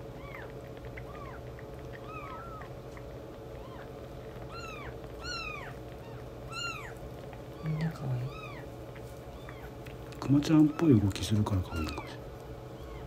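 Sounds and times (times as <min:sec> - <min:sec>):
kittens mewing: 0:00.0 - 0:13.0.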